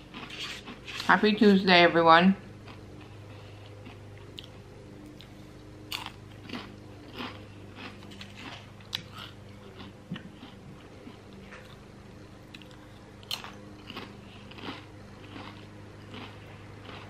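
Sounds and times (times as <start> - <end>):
person chewing a wrap: 0.0 - 1.1, 2.6 - 17.0
salad crunching: 0.0 - 1.1, 2.7 - 11.9, 12.5 - 17.0.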